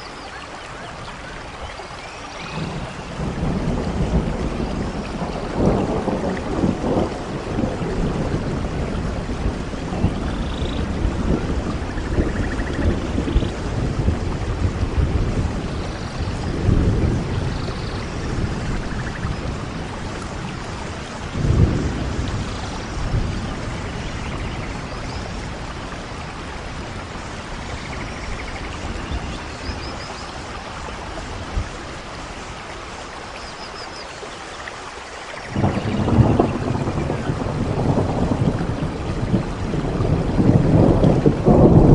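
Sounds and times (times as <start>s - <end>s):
heavy rain: 0.0s - 41.9s
thunder rolling: 2.5s - 29.9s, 35.5s - 41.9s.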